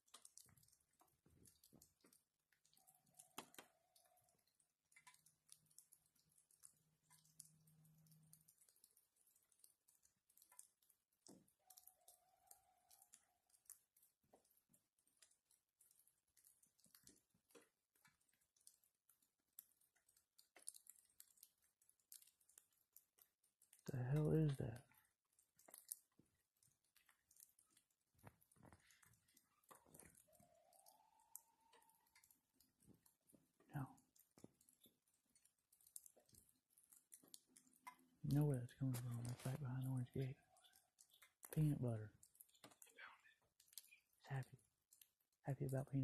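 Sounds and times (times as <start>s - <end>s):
faint scattered clicks: 0.0s - 46.0s.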